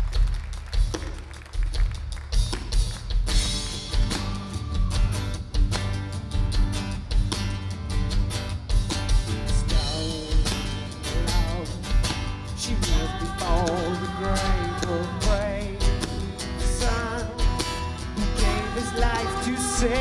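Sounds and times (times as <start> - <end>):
bass guitar: 0.0 - 20.0
drum kit steady beat: 0.0 - 20.0
electric guitars: 3.3 - 20.0.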